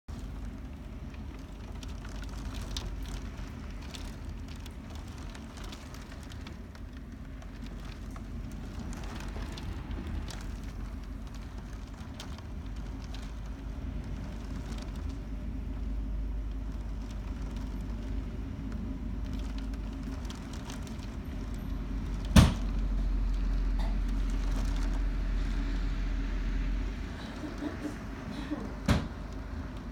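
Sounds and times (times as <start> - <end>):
sharp crackles: 0.1 - 27.0
storm wind buffeting microphone: 0.1 - 29.9.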